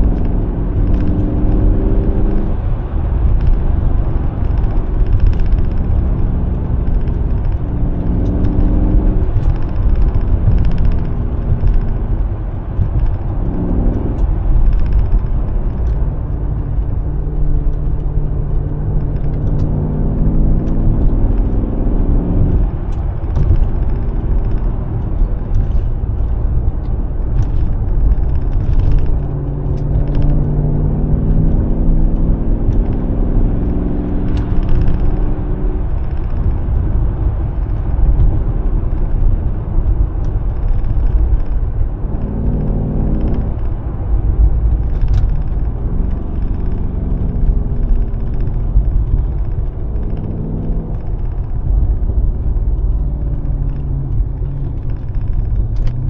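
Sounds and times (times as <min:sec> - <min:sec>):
car engine accelerating: 0:00.0 - 0:56.0
road rumble: 0:00.0 - 0:56.0.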